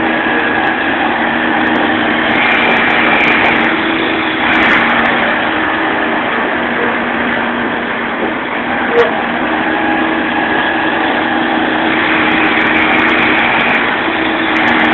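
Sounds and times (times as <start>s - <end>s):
combine harvester engine running: 0.0s - 14.9s
wheel spinning in deep mud: 0.0s - 14.9s.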